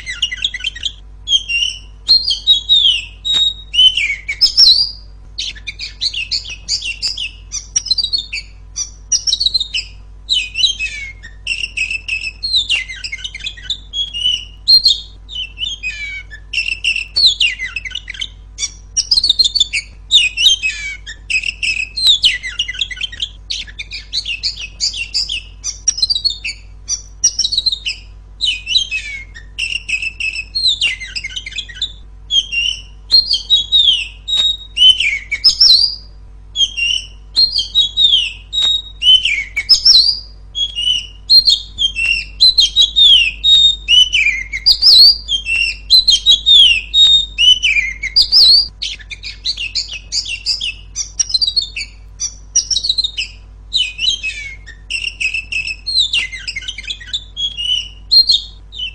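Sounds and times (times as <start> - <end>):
bird singing whistled phrases: 0.0 - 58.9.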